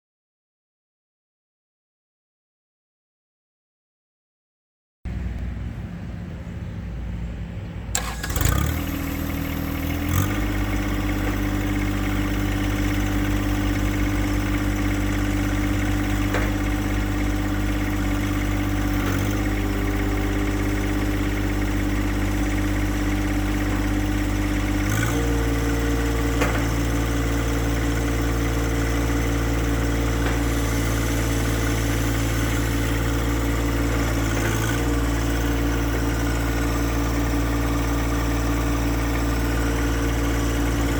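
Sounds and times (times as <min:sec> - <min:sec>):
tractor diesel engine: 0:05.1 - 0:40.9.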